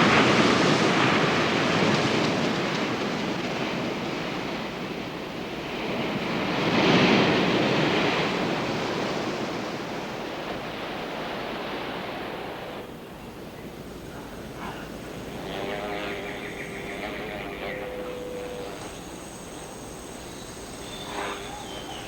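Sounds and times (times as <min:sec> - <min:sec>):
waves washing onto beach: 0:00.0 - 0:22.0.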